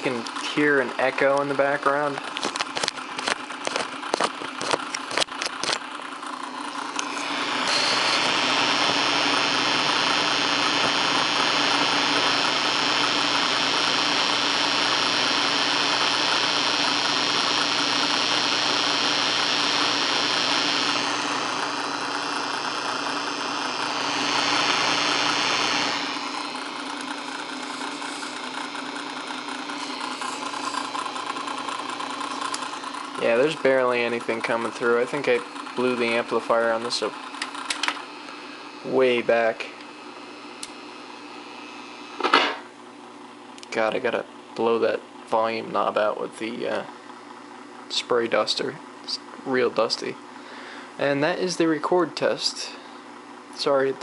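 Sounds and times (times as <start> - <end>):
tape hiss and hum: 0.0 - 47.2.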